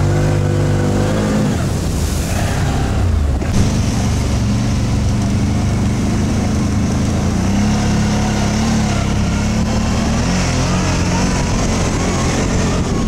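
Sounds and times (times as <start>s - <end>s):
quad bike engine running: 0.0s - 1.4s, 3.3s - 13.0s.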